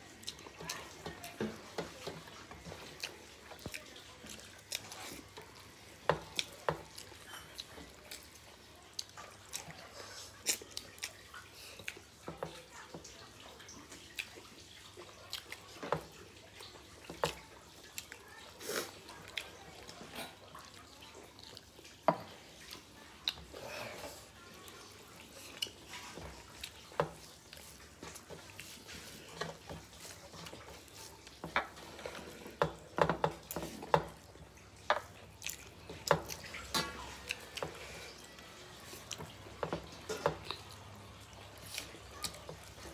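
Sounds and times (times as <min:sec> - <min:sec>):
wet chewing and lip-smacking: 0:00.0 - 0:12.4, 0:13.1 - 0:22.0, 0:24.6 - 0:31.4, 0:33.4 - 0:42.9.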